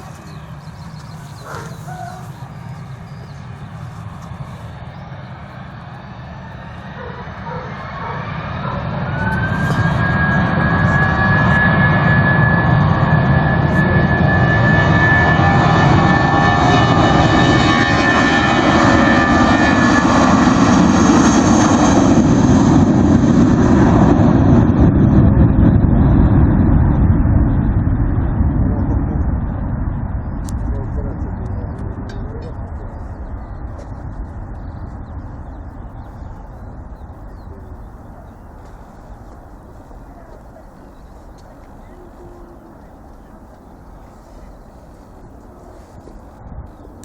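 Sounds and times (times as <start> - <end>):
jet engine whine: 0.0 - 47.0
loud jet noise: 0.0 - 47.0.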